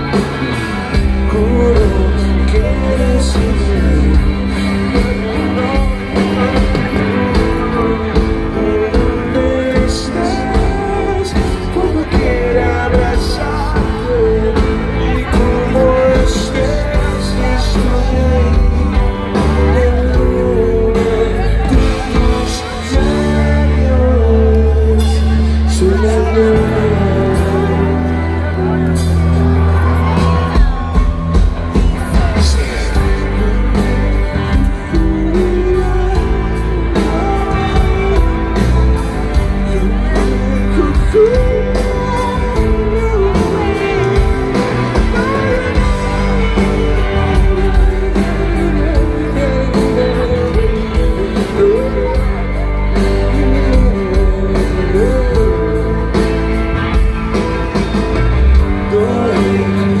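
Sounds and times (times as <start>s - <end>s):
live rock band with singer: 0.0s - 60.0s.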